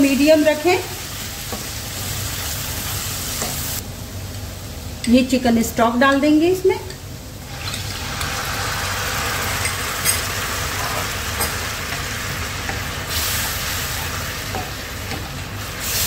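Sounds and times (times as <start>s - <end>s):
onions sizzling in frying pan: 0.0s - 16.0s.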